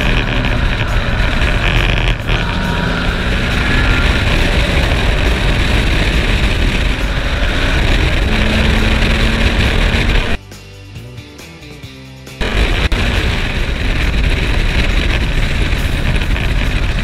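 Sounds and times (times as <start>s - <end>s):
race car engine at speed: 0.0s - 10.4s, 12.4s - 17.0s
wind and road noise: 0.0s - 10.6s, 11.2s - 17.0s.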